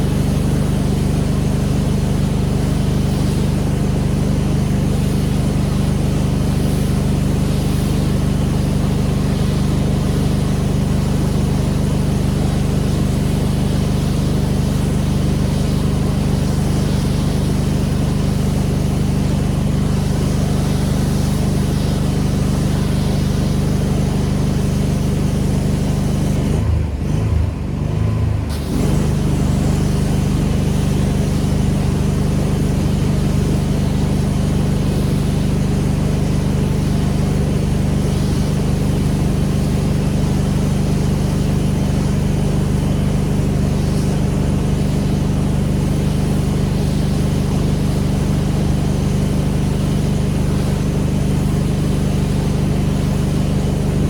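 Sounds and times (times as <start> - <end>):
high-pressure spray hissing: 0.0 - 26.6, 28.5 - 54.0
pressure washer engine droning: 0.0 - 54.0.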